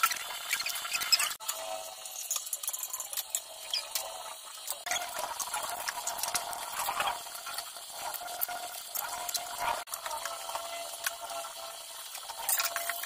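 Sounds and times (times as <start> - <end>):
tap water running into sink: 2.4 - 13.0.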